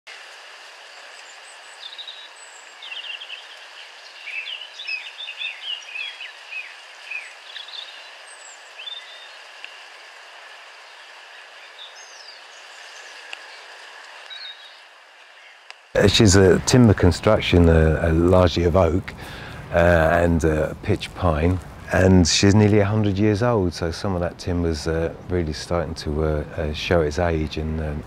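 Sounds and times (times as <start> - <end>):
outdoor hiss: 0.1 - 28.0
small birds chirping: 0.7 - 28.0.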